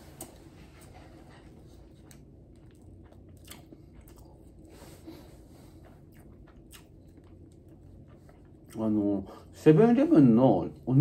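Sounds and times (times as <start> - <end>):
faint chewing and biting: 0.0 - 9.6.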